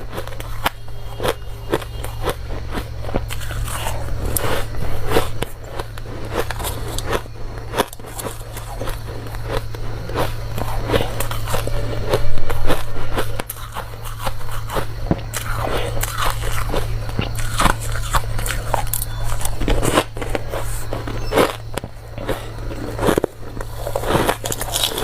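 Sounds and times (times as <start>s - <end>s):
ice being chewed: 0.0s - 25.0s
steady low hum: 0.0s - 25.0s.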